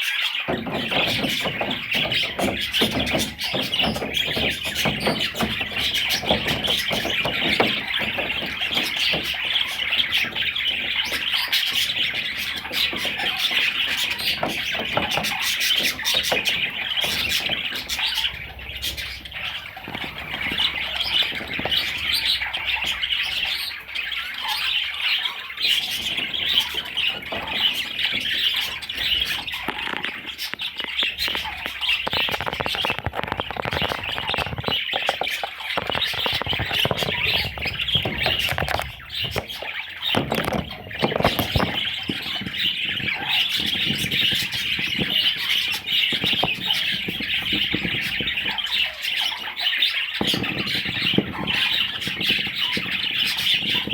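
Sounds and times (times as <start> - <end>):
budgerigar chirping and chattering: 0.0 - 53.9.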